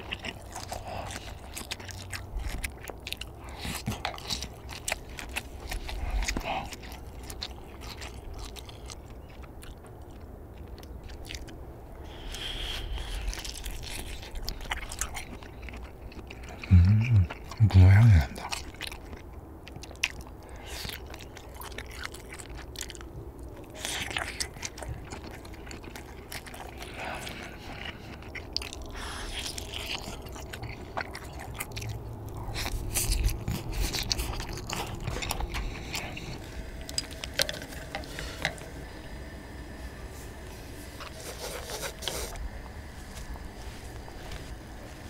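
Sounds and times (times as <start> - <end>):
biting and chewing fish cake: 0.0 - 45.0.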